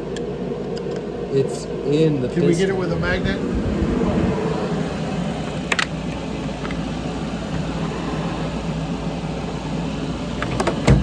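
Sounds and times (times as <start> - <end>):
low machine drone: 1.2 - 10.2.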